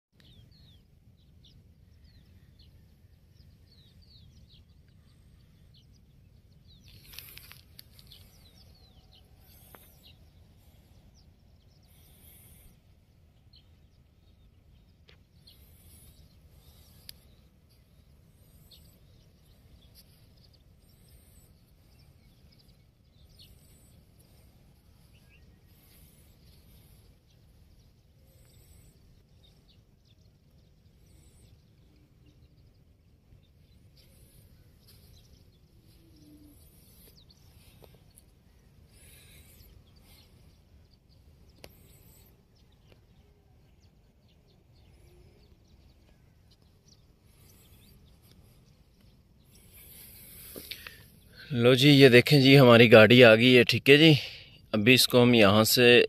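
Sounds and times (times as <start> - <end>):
small birds chirping: 0.1 - 56.0.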